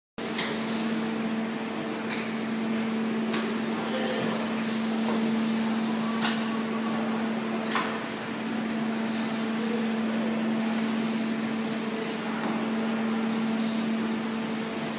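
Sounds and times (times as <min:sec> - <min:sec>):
welding machine electrical hum: 0:00.2 - 0:14.9.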